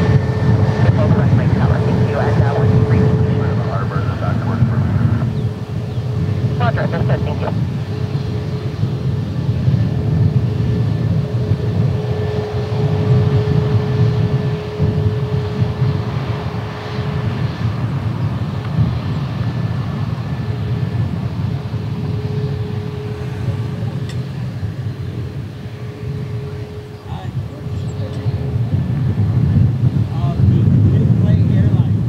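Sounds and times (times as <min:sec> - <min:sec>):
jet engines whining: 0:00.0 - 0:32.0
low engine rumble: 0:00.0 - 0:32.0.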